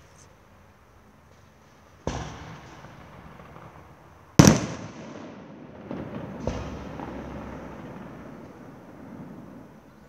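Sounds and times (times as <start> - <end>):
fireworks bangs: 1.3 - 10.0.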